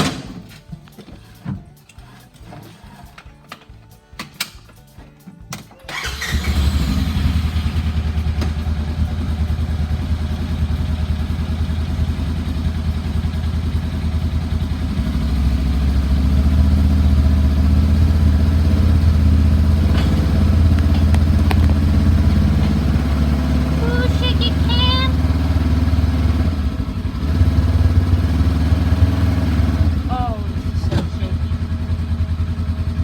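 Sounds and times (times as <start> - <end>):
side-by-side engine running: 5.9 - 33.0.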